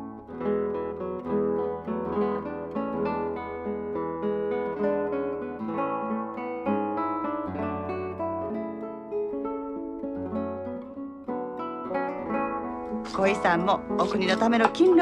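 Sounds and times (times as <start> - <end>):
acoustic guitar plucking: 0.0 - 15.0.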